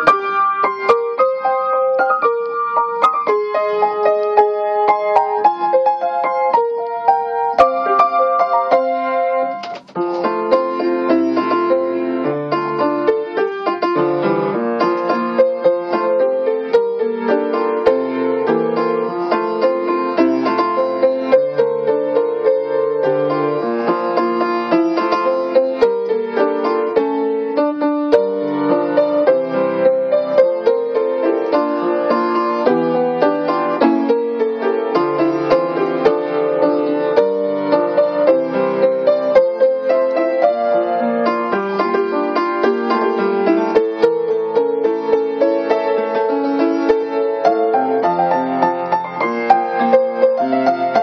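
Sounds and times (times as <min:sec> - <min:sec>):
solo piano ballad: 0:00.0 - 0:51.0.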